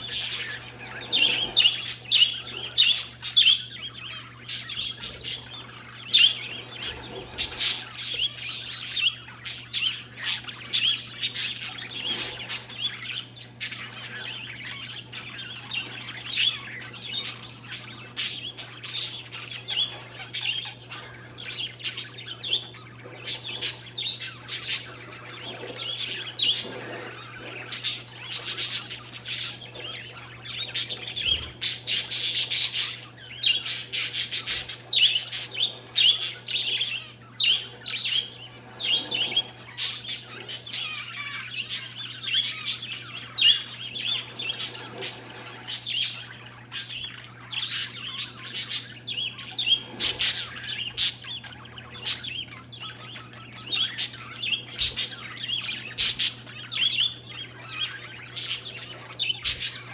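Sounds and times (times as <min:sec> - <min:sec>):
small birds chirping and squawking: 0:00.0 - 0:59.9.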